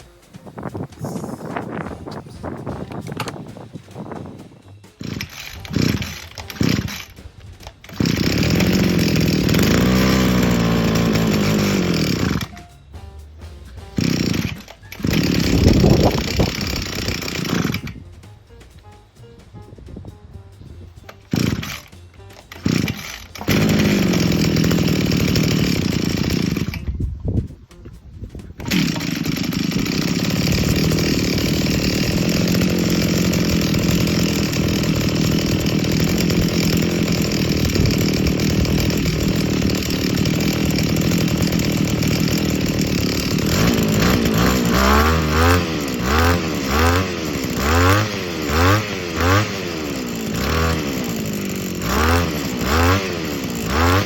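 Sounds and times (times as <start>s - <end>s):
small two-stroke engine running: 0.0s - 13.0s, 13.7s - 18.2s, 20.9s - 27.2s, 28.4s - 54.0s
engine revving: 4.9s - 18.0s, 21.0s - 27.0s, 28.6s - 54.0s.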